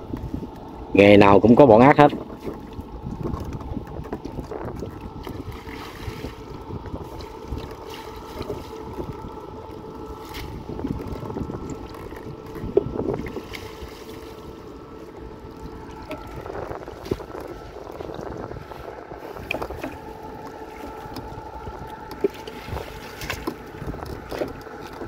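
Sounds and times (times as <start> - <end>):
boat motor humming: 0.0 - 25.0
wind buffeting microphone: 0.0 - 25.0.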